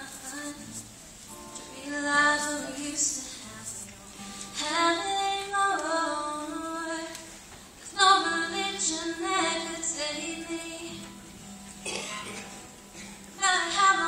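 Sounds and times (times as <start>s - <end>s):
girl singing slow ballad: 0.0s - 11.3s, 13.4s - 14.0s
faint acoustic guitar: 0.0s - 14.0s.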